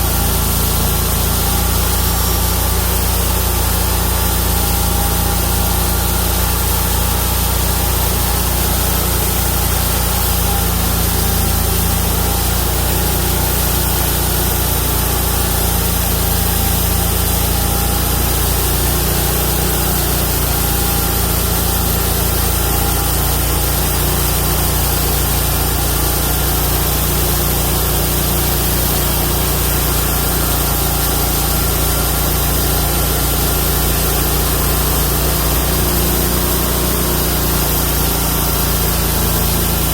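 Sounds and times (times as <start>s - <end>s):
band blade sawing through log: 0.0s - 39.9s
engine running steadily: 0.0s - 39.9s.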